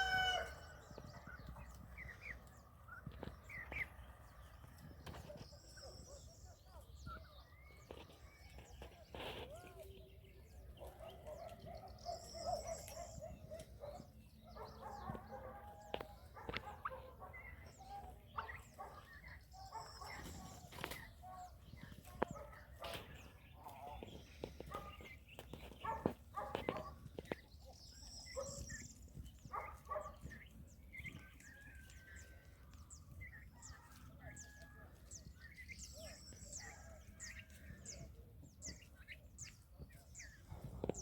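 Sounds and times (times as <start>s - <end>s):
chickens clucking and calling: 0.0s - 41.0s.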